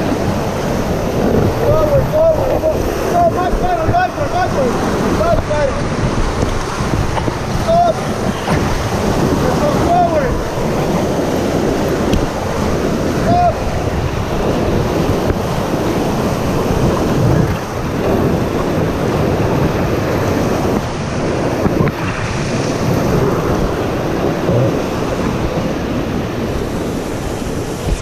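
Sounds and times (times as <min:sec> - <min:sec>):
whitewater rapids rushing: 0:00.0 - 0:28.0
wind buffeting microphone: 0:00.0 - 0:28.0.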